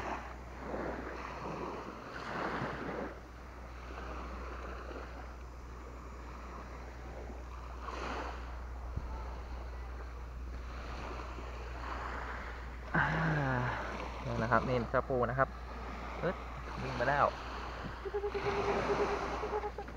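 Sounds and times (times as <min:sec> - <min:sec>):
sea waves washing onto beach: 0:00.0 - 0:19.9
wind rumble on microphone: 0:00.0 - 0:19.9.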